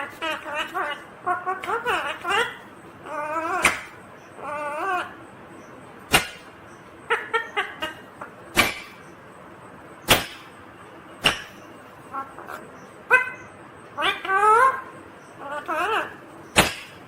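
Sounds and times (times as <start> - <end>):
parakeet squawks: 0.0 - 5.2, 6.1 - 9.1, 11.2 - 17.0
parakeet chattering: 0.0 - 9.2, 11.2 - 17.0.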